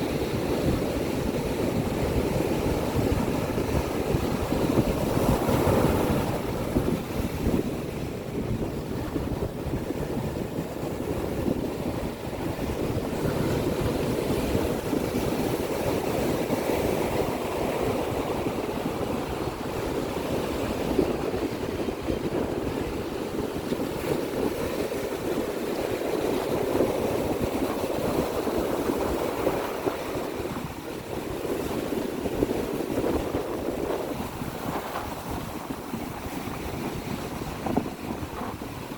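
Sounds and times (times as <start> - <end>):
ocean surf washing ashore: 0.0 - 38.9
wind buffeting microphone: 0.0 - 38.9.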